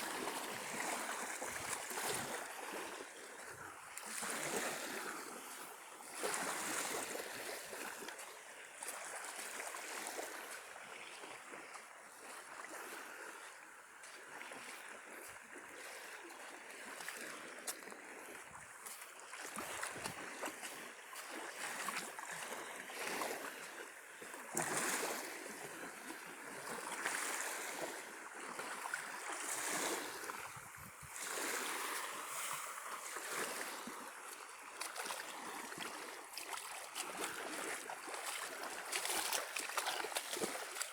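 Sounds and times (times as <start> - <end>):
small waves washing on beach: 0.0 - 40.9.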